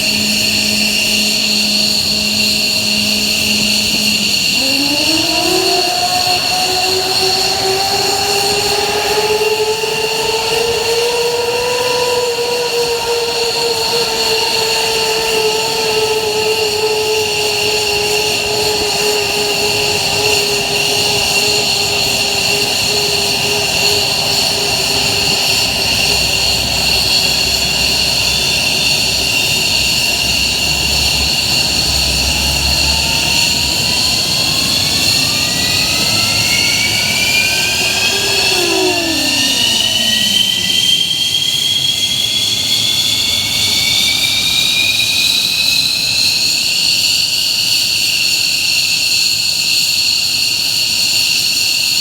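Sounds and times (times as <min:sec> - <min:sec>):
lower engine tone: 0:00.0 - 0:48.4
jet engine whine: 0:00.0 - 0:52.0
turbine spooling up: 0:00.0 - 0:52.0.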